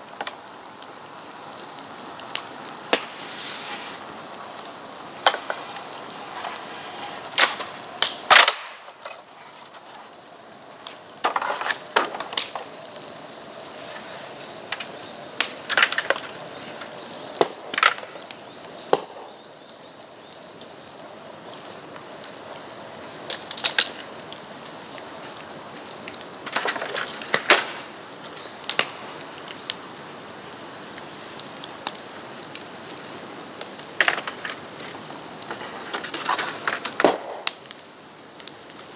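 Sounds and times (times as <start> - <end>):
bamboo bonfire crackling and popping: 0.0 - 38.9.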